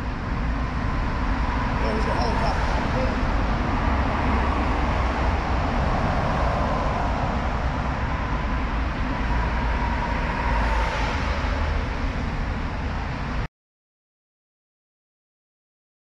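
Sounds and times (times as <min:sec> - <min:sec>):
wind rush: 0:00.0 - 0:13.4.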